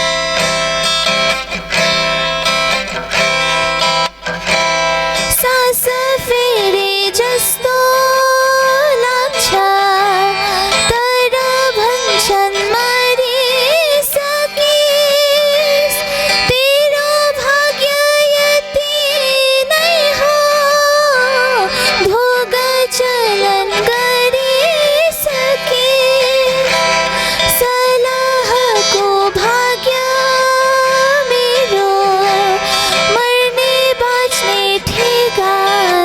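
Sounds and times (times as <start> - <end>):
woman singing: 5.2 - 36.0.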